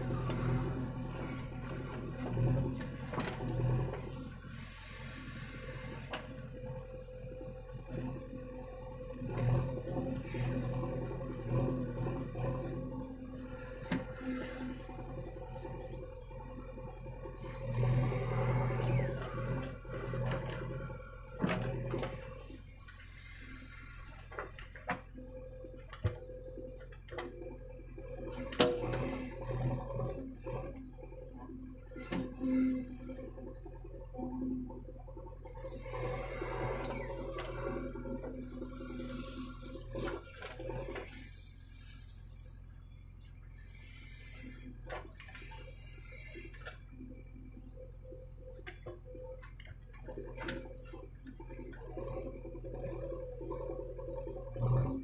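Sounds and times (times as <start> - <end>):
diesel engine running with whine: 0.0 - 55.0.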